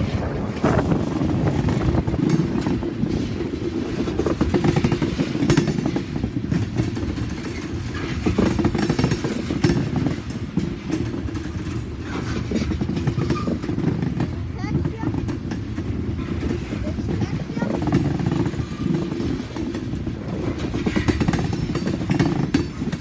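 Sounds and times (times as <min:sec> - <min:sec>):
freight train rumbling past: 0:00.0 - 0:23.0
train wheels clattering: 0:00.0 - 0:23.0.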